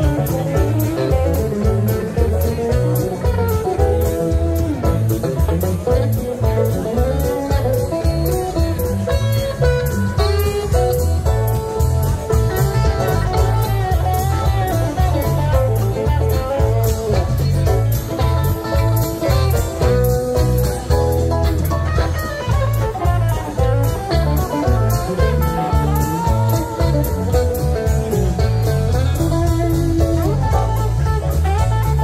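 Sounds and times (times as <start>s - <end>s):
bass: 0.0s - 32.0s
guitar melody: 0.0s - 32.0s
steady drum beat: 0.0s - 32.0s.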